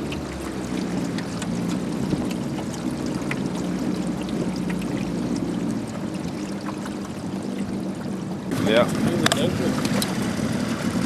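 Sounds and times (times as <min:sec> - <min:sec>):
outboard motor humming: 0:00.0 - 0:11.0
water splashing along hull: 0:00.0 - 0:11.0.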